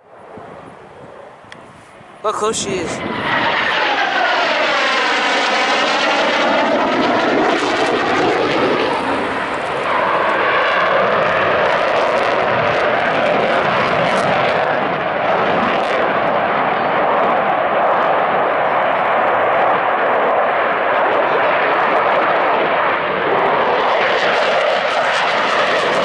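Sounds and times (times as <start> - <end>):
fighter jet engine roaring: 0.0 - 26.0.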